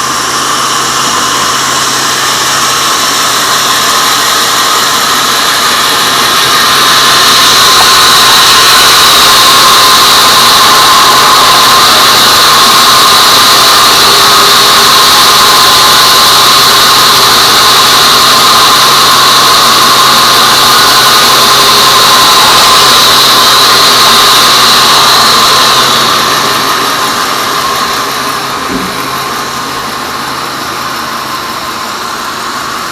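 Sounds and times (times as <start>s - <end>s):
band saw whining: 0.0s - 32.9s.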